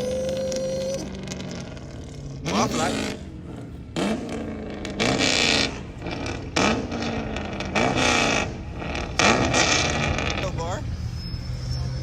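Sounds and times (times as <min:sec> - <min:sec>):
car engine revving: 0:00.0 - 0:10.9.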